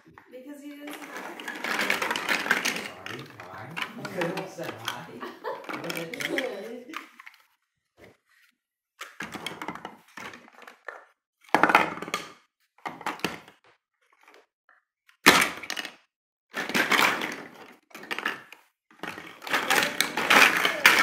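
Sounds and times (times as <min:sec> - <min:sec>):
plastic blocks clattering on wood floor: 0:00.0 - 0:08.1, 0:09.0 - 0:13.6, 0:15.3 - 0:21.0.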